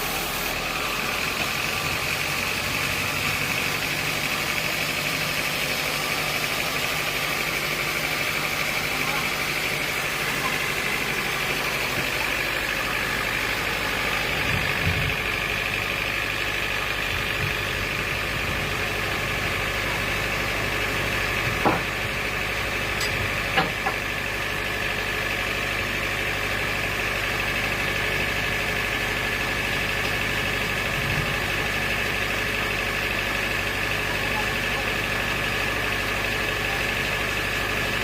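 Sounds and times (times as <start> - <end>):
sawmill machinery whining: 0.0 - 38.0.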